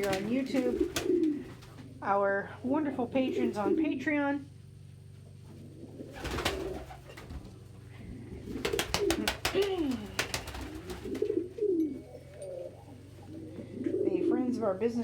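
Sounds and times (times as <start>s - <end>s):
pigeons cooing: 0.0s - 2.0s, 3.1s - 4.0s, 5.4s - 14.7s.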